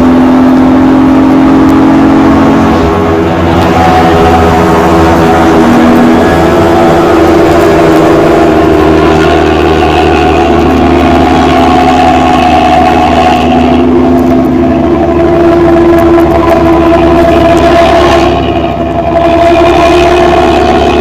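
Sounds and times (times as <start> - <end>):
loud bus exhaust droning: 0.0 - 21.0.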